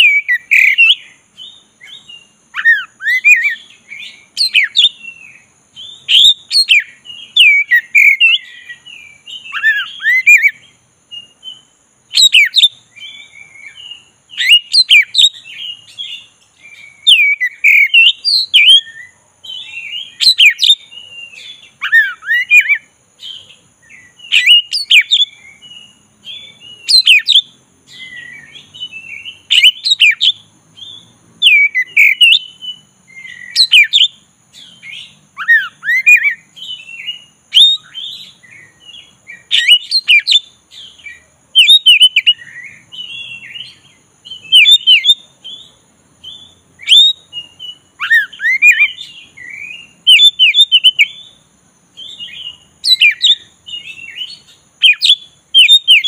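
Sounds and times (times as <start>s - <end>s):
bird singing whistled phrases: 0.0s - 51.4s, 52.0s - 56.0s.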